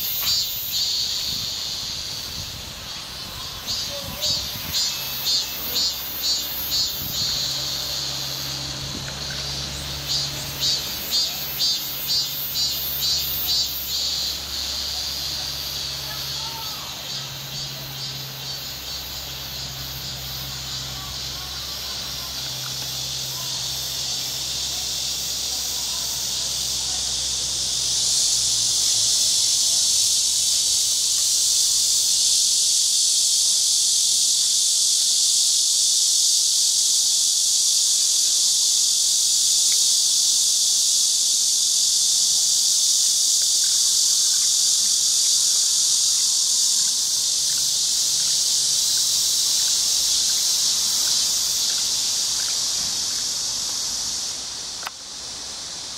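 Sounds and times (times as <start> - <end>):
cicada buzzing: 0.0 - 55.9.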